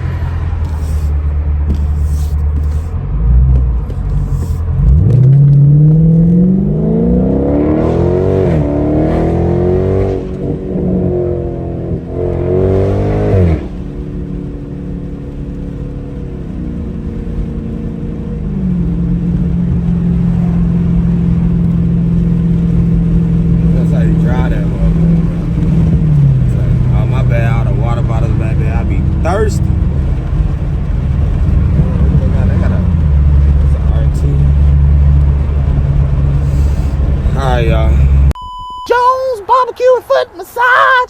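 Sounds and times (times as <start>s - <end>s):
car engine accelerating: 0.0s - 38.4s.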